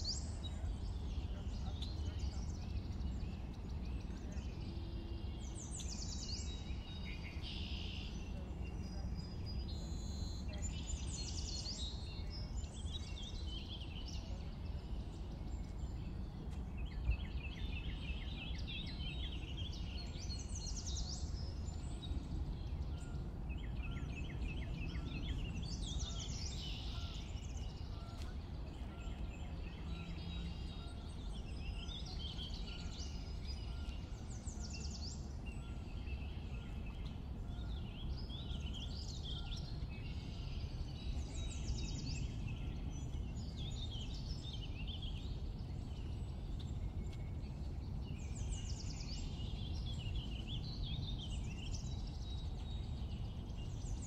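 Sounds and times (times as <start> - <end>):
low outdoor rumble: 0.0 - 54.0
songbirds chirping and trilling: 0.0 - 54.0.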